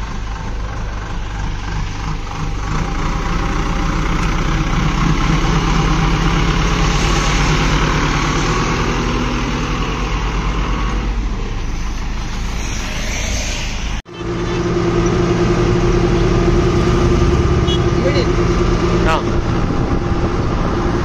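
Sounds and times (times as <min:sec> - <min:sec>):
diesel engine idling: 0:00.0 - 0:12.6, 0:14.0 - 0:21.0
engine drone inside cab: 0:00.0 - 0:21.0.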